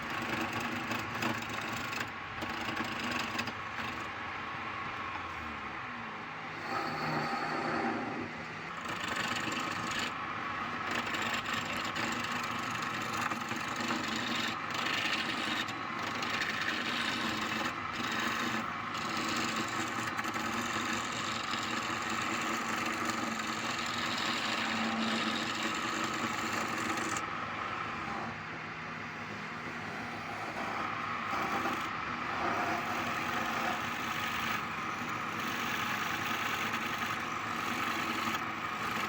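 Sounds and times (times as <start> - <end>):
lathe tool scraping wood: 0.0 - 4.2, 6.5 - 39.0
lathe motor hum: 0.0 - 39.0.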